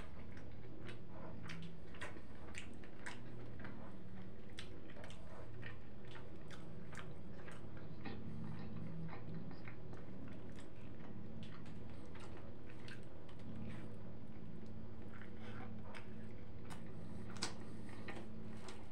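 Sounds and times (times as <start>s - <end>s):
low steady hum: 0.0s - 18.9s
person chewing food: 0.0s - 18.9s.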